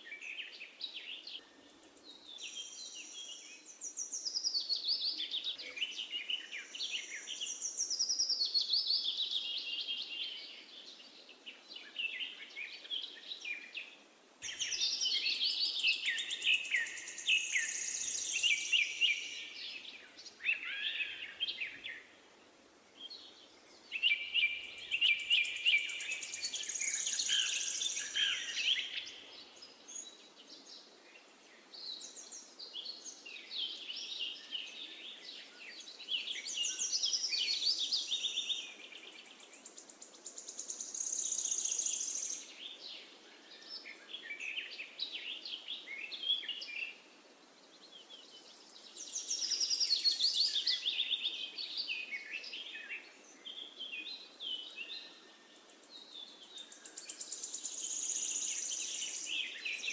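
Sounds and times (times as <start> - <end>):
faint steady hiss: 0.0 - 59.9
songbirds chirping and trilling: 0.0 - 59.9.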